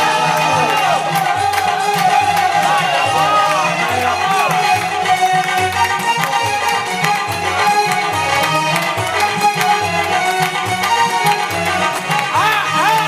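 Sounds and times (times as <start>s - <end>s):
held melody: 0.0s - 13.0s
percussion beat: 0.0s - 13.0s.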